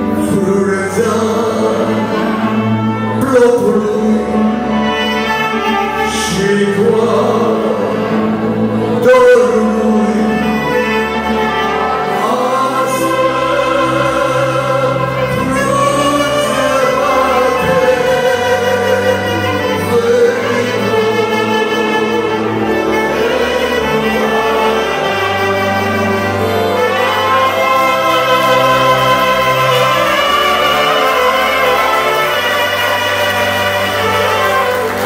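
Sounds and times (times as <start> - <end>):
accordion accompaniment: 0.0 - 35.0
clarinets playing melody: 0.0 - 35.0
folk band playing lively tune: 0.0 - 35.0.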